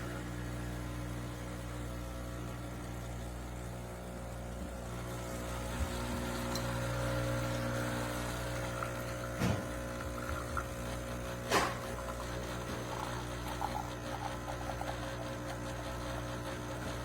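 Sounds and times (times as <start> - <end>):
espresso machine pump humming: 0.0 - 17.0.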